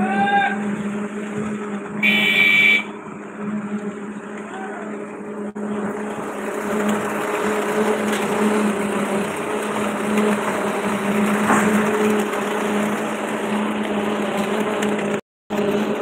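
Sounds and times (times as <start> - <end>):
pump truck engine humming: 0.0 - 16.0.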